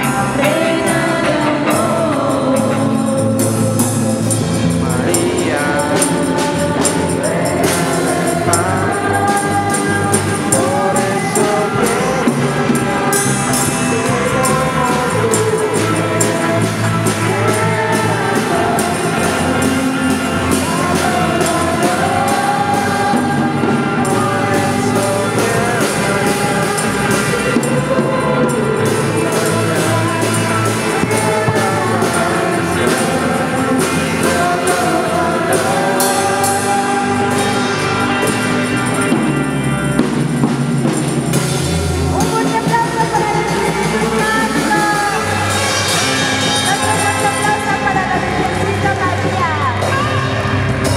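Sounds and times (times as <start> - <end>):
drum kit with cymbals: 0.0 - 50.9
electric bass: 0.0 - 50.9
people singing: 0.0 - 50.9.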